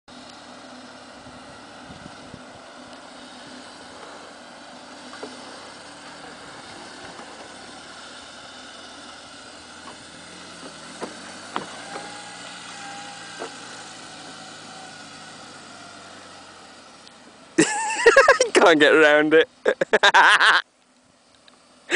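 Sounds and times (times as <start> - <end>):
car engine running: 0.1 - 21.9.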